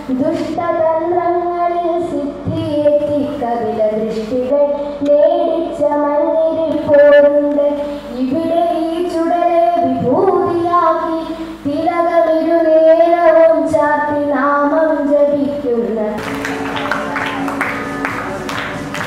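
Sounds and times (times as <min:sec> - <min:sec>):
child singing slow melody: 0:00.0 - 0:16.2.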